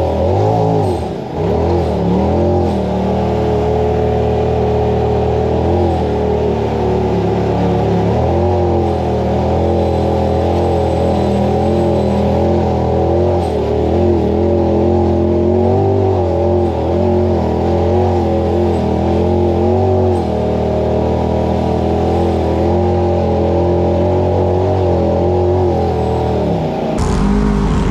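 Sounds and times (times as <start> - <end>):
engine revving: 0.0 - 27.9.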